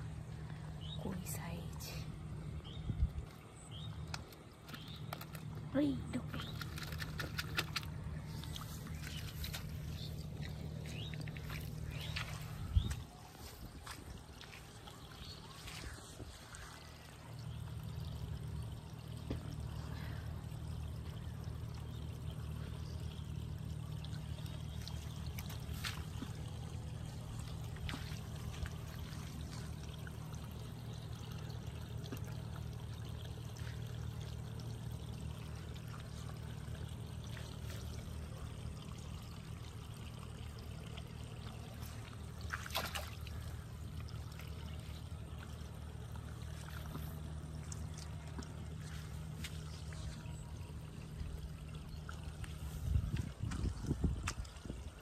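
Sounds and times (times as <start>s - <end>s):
low hum: 0.0s - 55.0s
trickling water: 0.0s - 55.0s.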